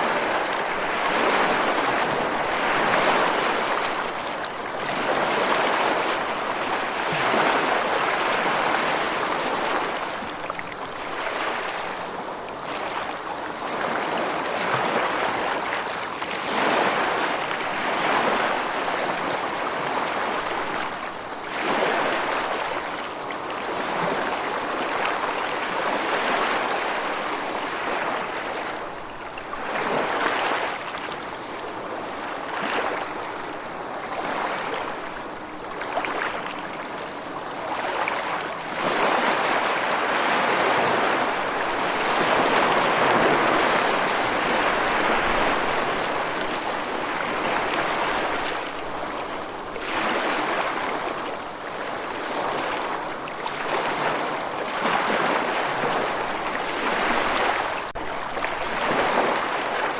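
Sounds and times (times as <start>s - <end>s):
water rushing and splashing: 0.0s - 59.9s.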